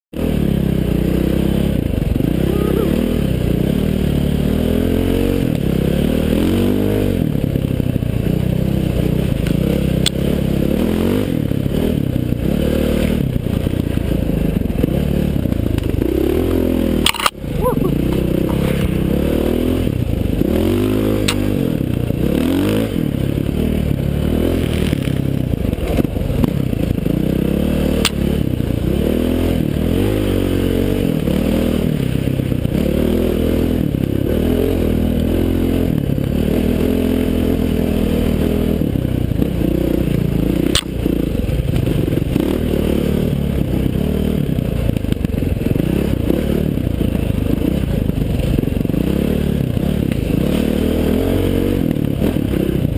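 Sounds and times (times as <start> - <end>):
dirt bike engine revving: 0.2 - 52.9.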